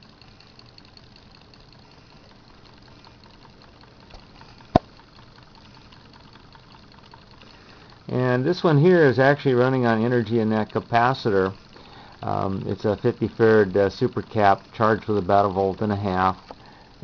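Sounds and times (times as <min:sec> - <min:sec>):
small engine whirring and ticking: 0:00.0 - 0:17.0.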